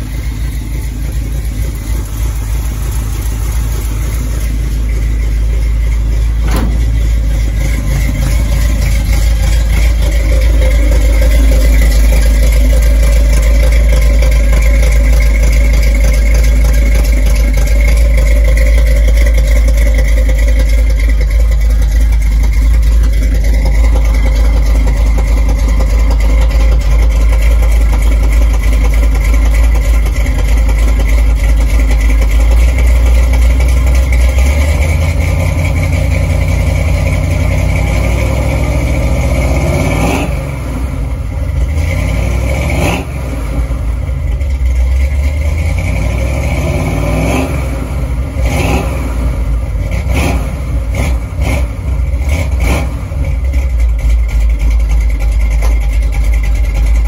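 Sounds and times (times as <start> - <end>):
car engine idling loud: 0.0 - 57.0.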